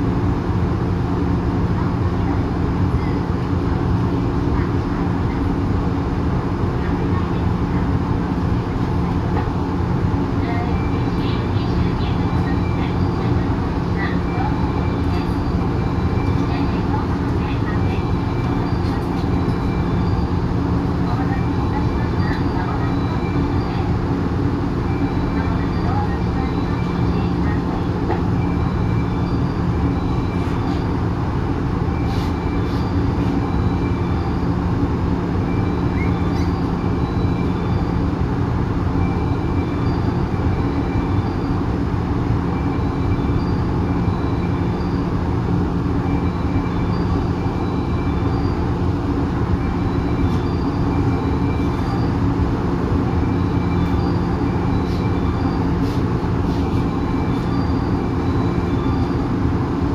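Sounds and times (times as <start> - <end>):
steady low hum: 0.0 - 59.9
train wheels rumbling on rail: 0.0 - 59.9.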